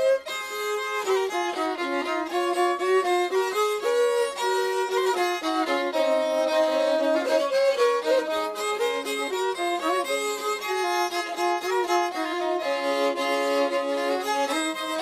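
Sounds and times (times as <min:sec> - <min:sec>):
bowed fiddle melody: 0:00.0 - 0:15.0.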